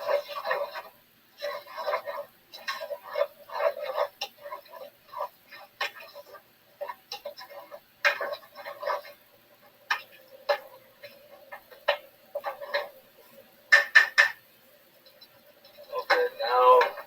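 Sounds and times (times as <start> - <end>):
light clicks and taps from pan: 0.0 - 17.0.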